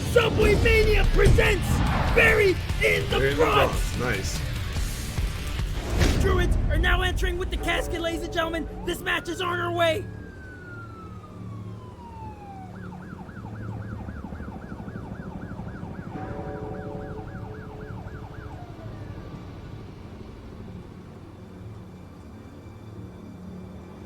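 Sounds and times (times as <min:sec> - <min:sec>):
emergency vehicle siren: 0:00.0 - 0:04.4, 0:06.8 - 0:24.0.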